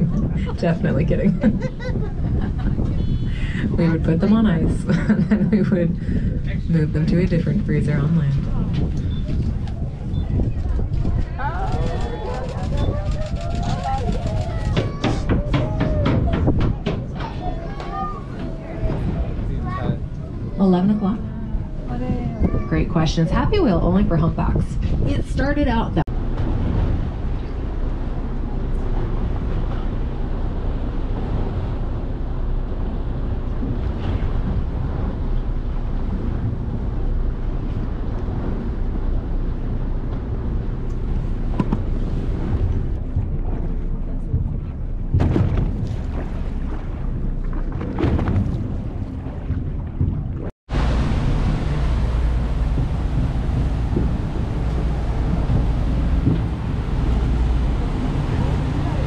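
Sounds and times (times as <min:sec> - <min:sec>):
low rumble of boat engine: 0:00.0 - 0:59.0
wind rushing over microphone: 0:00.0 - 0:59.0.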